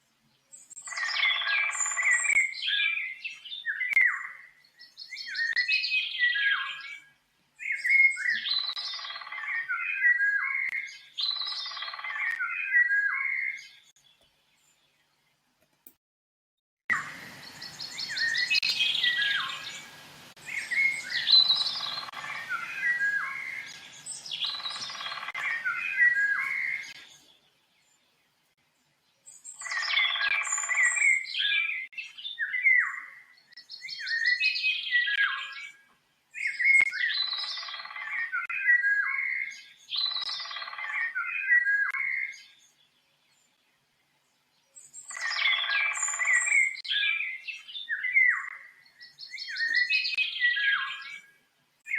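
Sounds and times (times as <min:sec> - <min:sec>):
songbird warbling: 0:00.6 - 0:13.9, 0:16.9 - 0:27.4, 0:29.3 - 0:35.8, 0:36.4 - 0:42.6, 0:44.9 - 0:51.3.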